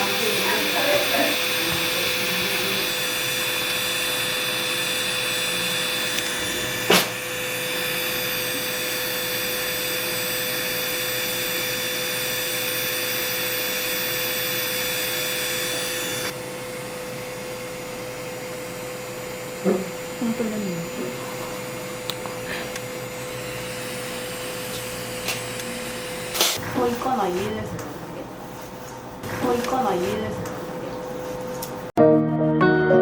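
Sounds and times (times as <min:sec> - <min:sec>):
electric foot-care drill whirring: 0:00.0 - 0:26.9.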